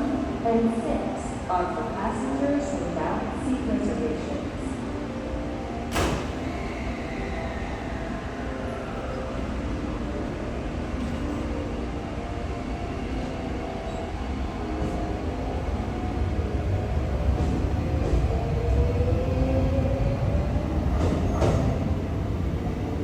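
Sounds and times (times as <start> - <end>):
train low rumble: 0.0 - 23.0.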